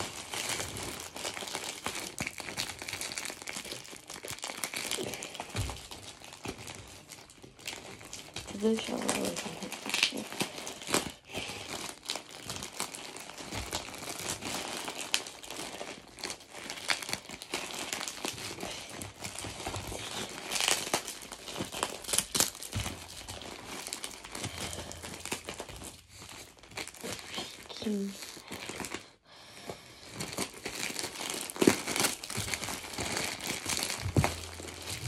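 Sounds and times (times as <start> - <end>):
plastic bag crinkling: 0.0 - 29.2, 29.8 - 35.0.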